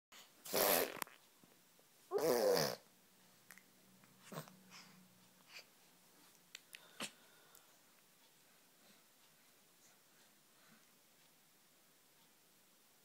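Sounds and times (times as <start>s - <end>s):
small faint sounds: 0.1s - 13.0s.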